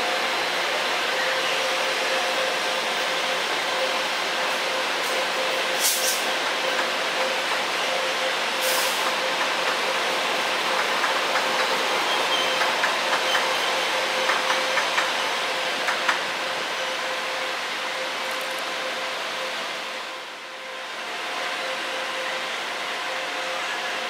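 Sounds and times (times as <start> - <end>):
train rumbling and humming: 0.0 - 24.0.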